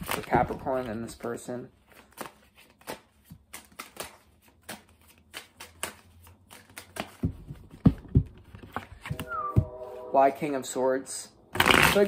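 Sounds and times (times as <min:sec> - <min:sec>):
cards being shuffled: 0:00.0 - 0:09.2, 0:11.6 - 0:12.0.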